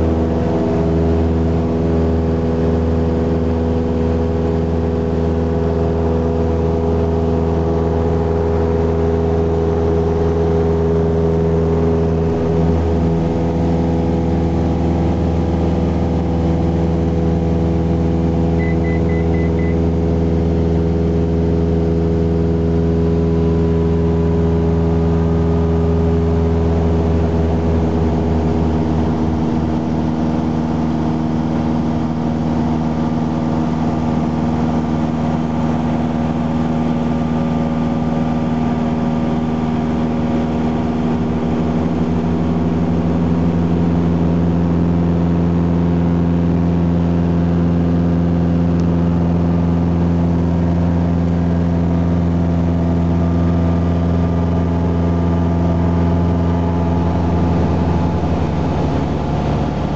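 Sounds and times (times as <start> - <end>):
plane engine and propeller droning: 0.0 - 59.9.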